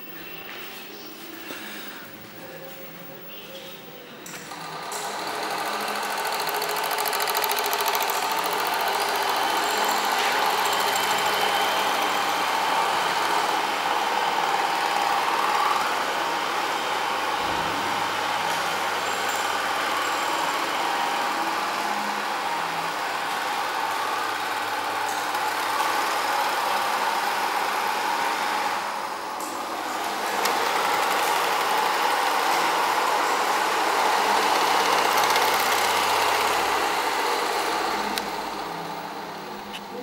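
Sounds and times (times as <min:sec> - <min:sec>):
film projector clatter and whir: 0:04.2 - 0:40.0.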